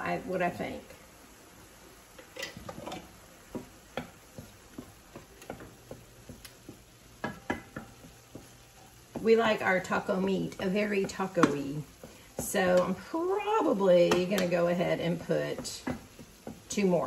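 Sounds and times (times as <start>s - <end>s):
faint sizzle: 0.0s - 17.0s.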